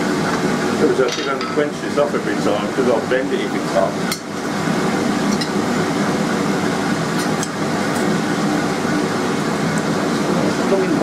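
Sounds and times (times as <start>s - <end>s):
fan whooshing: 0.0s - 11.0s.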